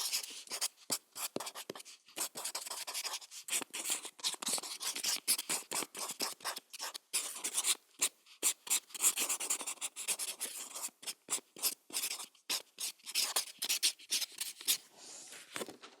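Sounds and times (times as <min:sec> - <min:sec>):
felt tip pen scratching paper: 0:00.0 - 0:14.8.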